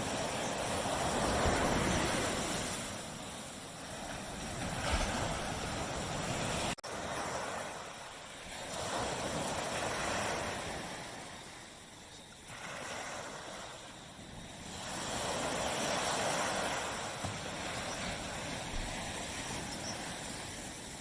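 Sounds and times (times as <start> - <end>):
surf breaking on beach: 0.0 - 11.7, 12.3 - 21.0.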